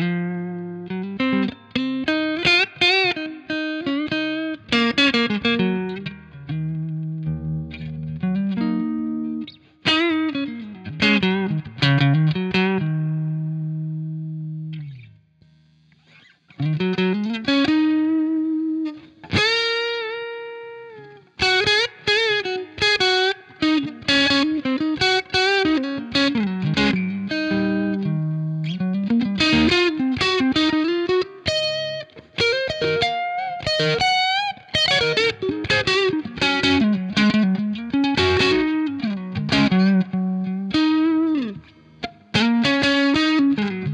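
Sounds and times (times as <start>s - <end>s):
overdriven electric guitar melody: 0.0s - 43.9s.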